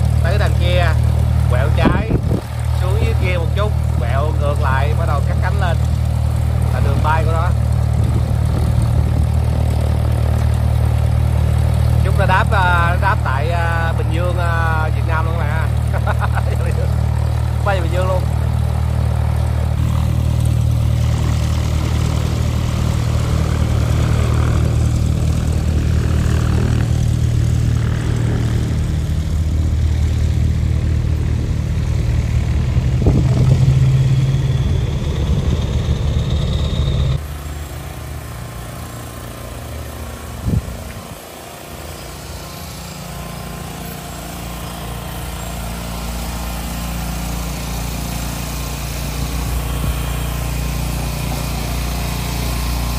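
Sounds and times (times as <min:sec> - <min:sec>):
propeller airplane engine: 0:00.0 - 0:52.9.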